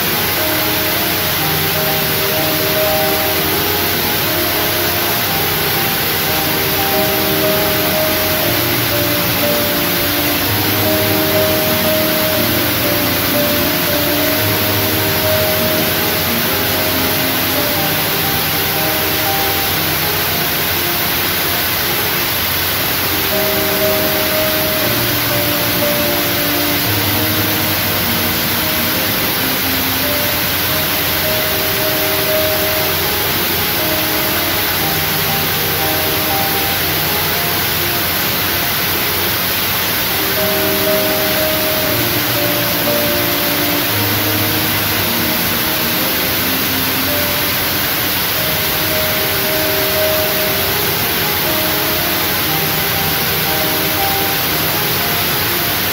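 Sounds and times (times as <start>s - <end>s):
soft background music: 0.0s - 55.9s
steady hiss: 0.0s - 55.9s.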